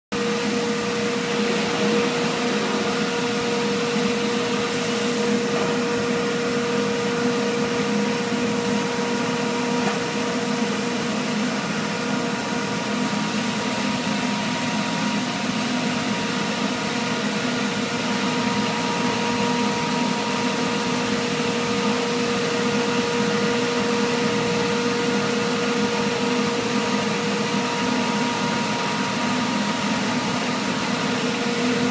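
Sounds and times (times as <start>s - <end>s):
panel saw drone: 0.2s - 31.9s.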